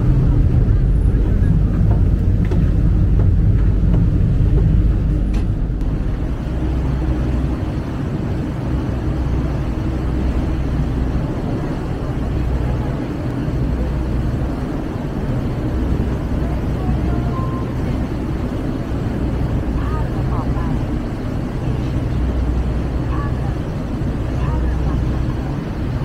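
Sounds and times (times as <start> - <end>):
boat engine rumbling: 0.0 - 26.0
water noise: 0.0 - 26.0
wind: 0.0 - 26.0.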